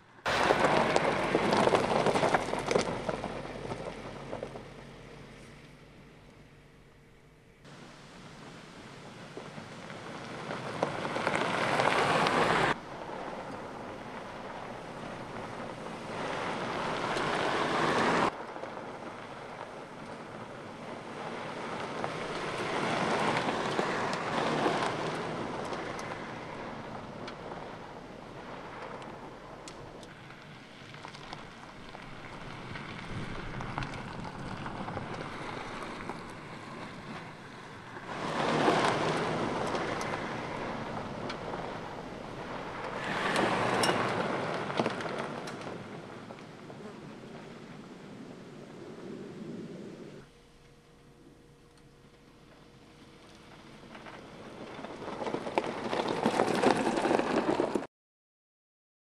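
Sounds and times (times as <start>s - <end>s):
tyres rushing on gravel: 0.0s - 6.1s, 7.7s - 49.5s, 52.5s - 57.9s.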